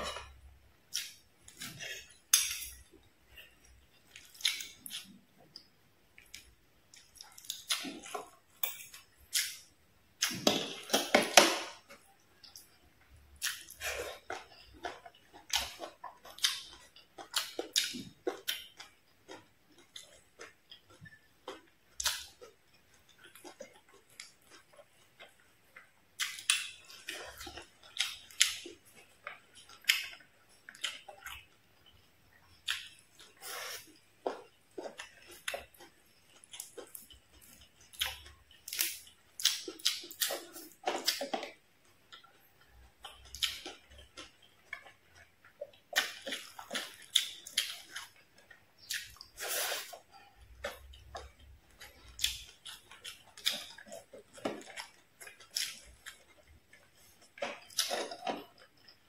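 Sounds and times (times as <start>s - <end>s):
chewing and lip-smacking: 0.0s - 59.0s.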